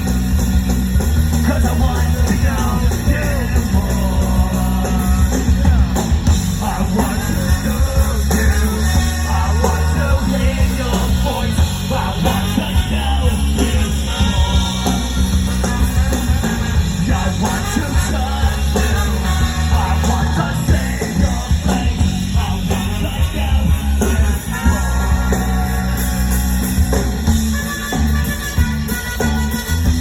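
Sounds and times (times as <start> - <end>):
live rock band playing: 0.0 - 30.0
person singing: 1.3 - 26.6.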